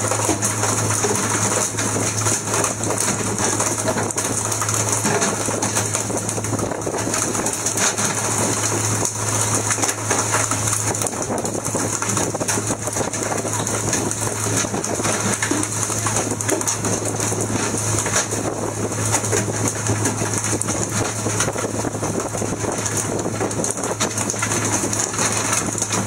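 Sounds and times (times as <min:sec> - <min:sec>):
boat engine humming: 0:00.0 - 0:26.0
wind and water rushing: 0:00.0 - 0:26.0.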